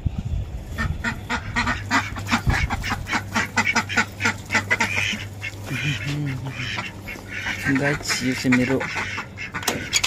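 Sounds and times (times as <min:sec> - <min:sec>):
turkeys calling: 0:00.7 - 0:10.0.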